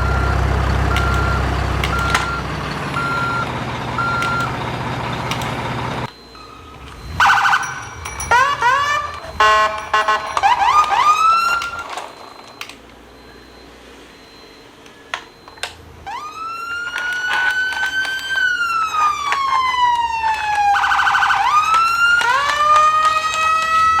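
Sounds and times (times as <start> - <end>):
clicks: 0.0 - 13.5, 14.7 - 24.0
electronic siren wailing: 0.0 - 24.0.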